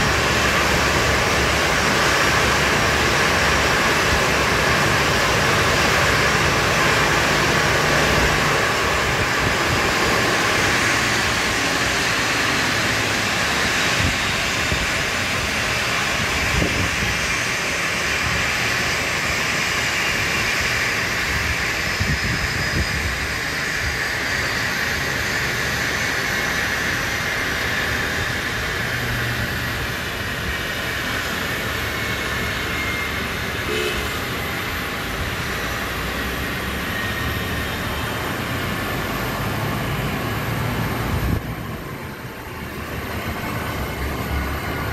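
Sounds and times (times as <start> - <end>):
jet engine rush: 0.0 - 44.9
turbine whine falling in pitch: 0.0 - 44.9.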